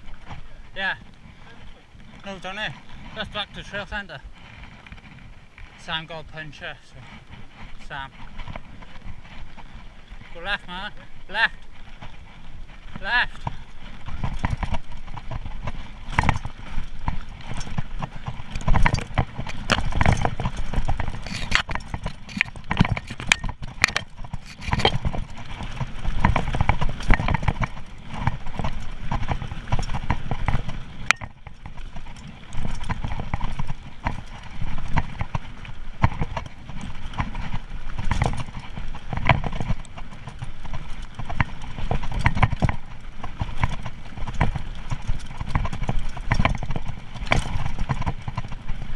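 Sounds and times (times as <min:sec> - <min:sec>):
mountain bike rattling: 0:00.0 - 0:48.9
tyres crunching on stones: 0:02.0 - 0:48.9.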